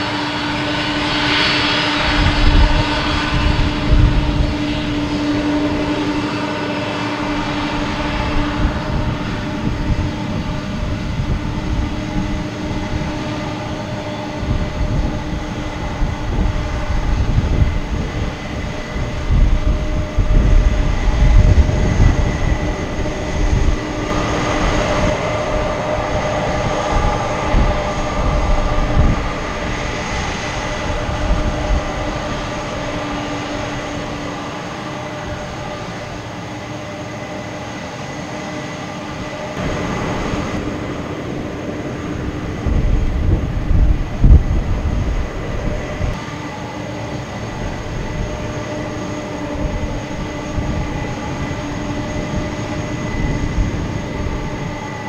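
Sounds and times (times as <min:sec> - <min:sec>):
jet engines whining and rumbling: 0:00.0 - 0:55.0.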